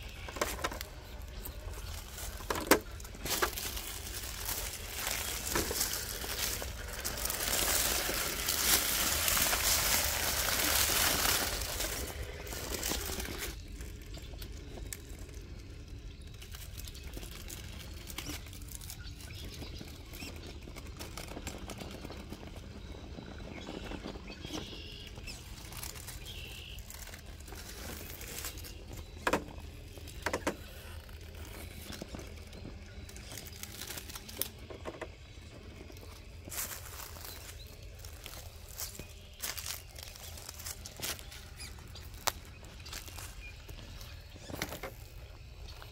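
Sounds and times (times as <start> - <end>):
toy truck crawling over rocks: 0.0 - 45.9
toy truck tyres crunching leaves: 0.0 - 45.9.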